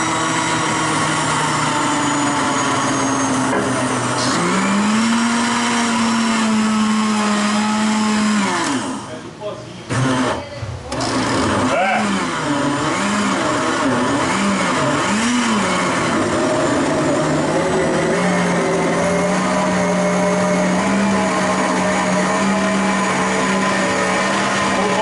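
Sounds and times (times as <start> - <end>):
blender running: 0.0 - 9.2, 9.9 - 25.0.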